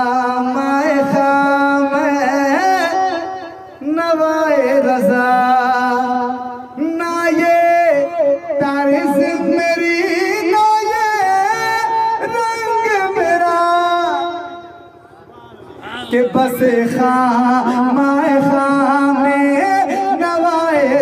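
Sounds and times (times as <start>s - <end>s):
man singing devotional song: 0.0s - 15.0s, 15.8s - 21.0s.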